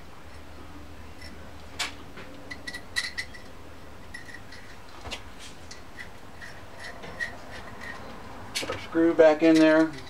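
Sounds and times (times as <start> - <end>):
metal parts clicking and tapping: 1.2 - 10.0.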